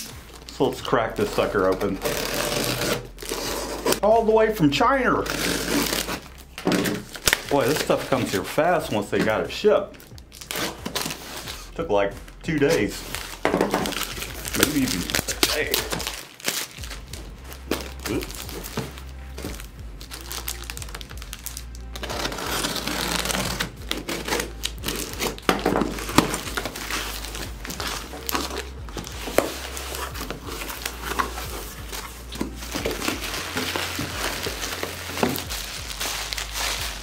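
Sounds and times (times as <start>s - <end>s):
bubble wrap rustling: 0.0s - 37.0s
plastic wrap and tape crinkling: 0.0s - 37.0s.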